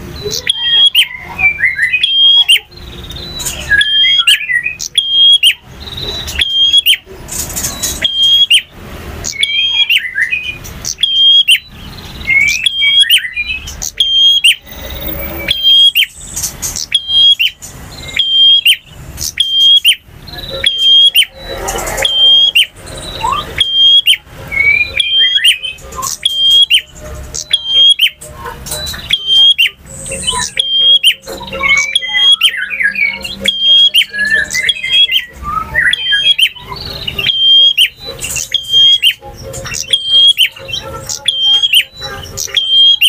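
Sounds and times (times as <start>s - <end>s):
bird chirps and trills: 0.0s - 43.0s
bird singing: 0.0s - 43.0s.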